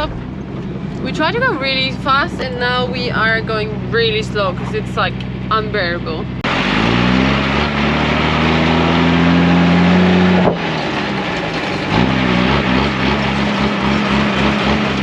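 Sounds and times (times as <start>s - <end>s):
diesel truck engine under load: 0.0s - 15.0s
rattle and road noise on dirt: 0.0s - 15.0s.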